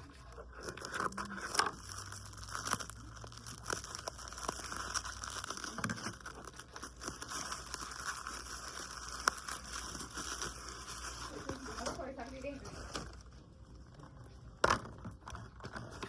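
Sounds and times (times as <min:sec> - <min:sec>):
packaging crinkling and tearing: 0:00.0 - 0:16.0.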